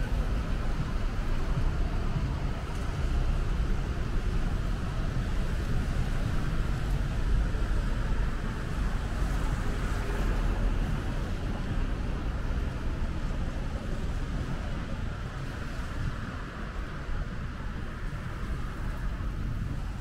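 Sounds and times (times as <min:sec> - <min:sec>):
road traffic noise: 0:00.0 - 0:20.0
wind on microphone: 0:00.0 - 0:20.0.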